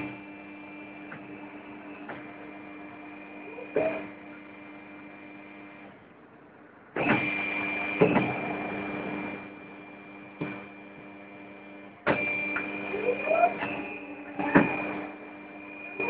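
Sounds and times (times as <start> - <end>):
electric drive whine: 0.0 - 16.0.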